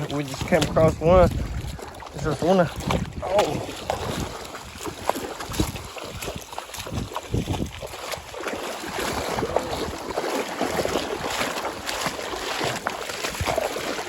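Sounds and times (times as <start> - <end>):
river water flowing: 0.0 - 14.0
wind buffeting microphone: 0.0 - 14.0.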